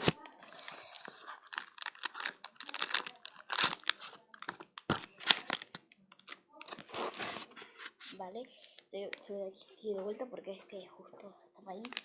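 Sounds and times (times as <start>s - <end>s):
objects being handled: 0.0s - 10.8s.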